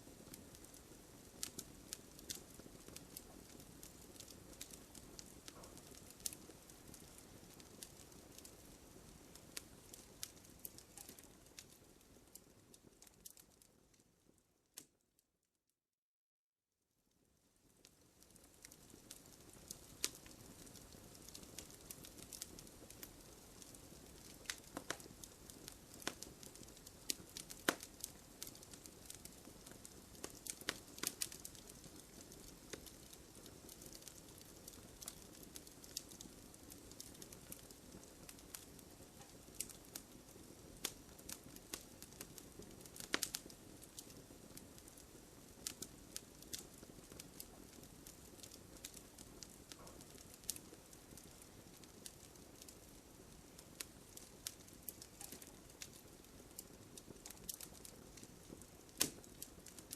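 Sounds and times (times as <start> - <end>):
hiss of campfire flames: 0.0 - 13.7, 17.7 - 59.9
burning wood crackling and popping: 0.0 - 15.0, 17.7 - 59.9.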